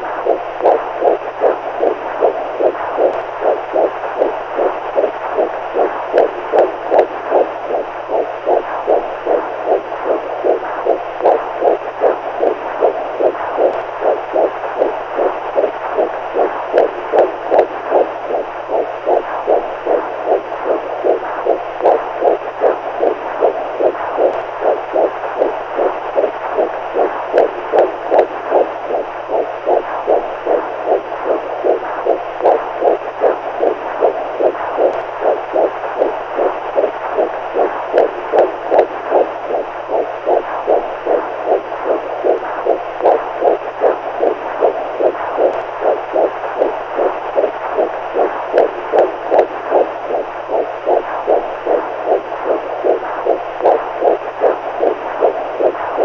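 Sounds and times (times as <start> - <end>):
faint low hum: 0.0 - 56.0
heartbeat: 0.0 - 56.0.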